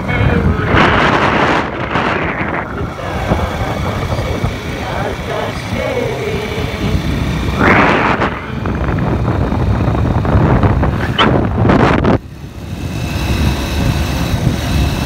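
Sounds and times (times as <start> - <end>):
rushes of noise: 0.0 - 15.0
vehicle low rumble: 0.0 - 15.0
wind buffeting microphone: 0.0 - 15.0.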